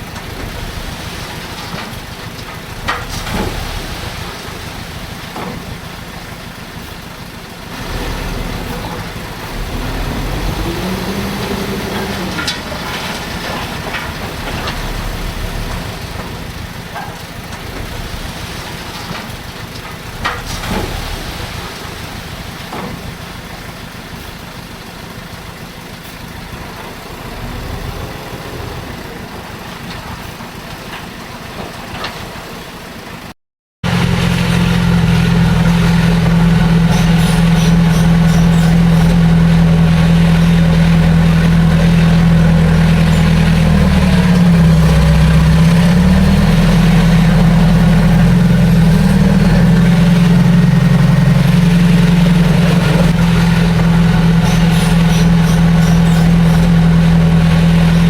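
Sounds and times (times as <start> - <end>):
heavy diesel engine running: 0.0 - 58.0
quieter engine sound: 0.0 - 58.0.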